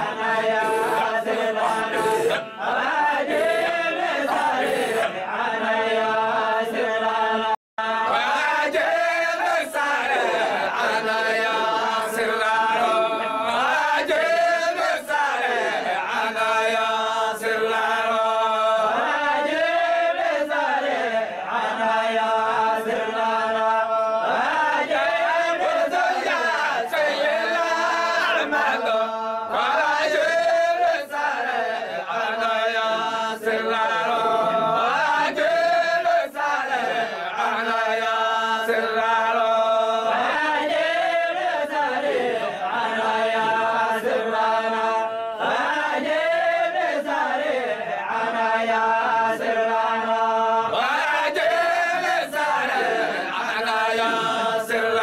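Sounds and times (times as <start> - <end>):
men chanting together: 0.0 - 55.0.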